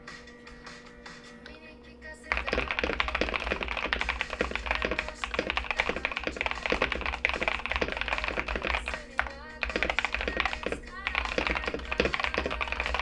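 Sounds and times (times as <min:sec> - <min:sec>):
mechanical keyboard typing: 0:02.3 - 0:13.0.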